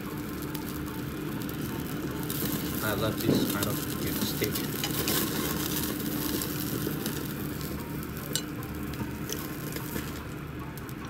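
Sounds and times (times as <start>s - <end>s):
beef sizzling on a grill: 0.0s - 11.0s.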